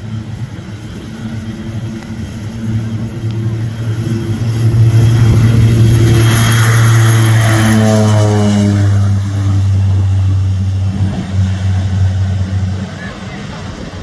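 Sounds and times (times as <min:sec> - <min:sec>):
turboprop plane taking off: 0:00.0 - 0:14.0.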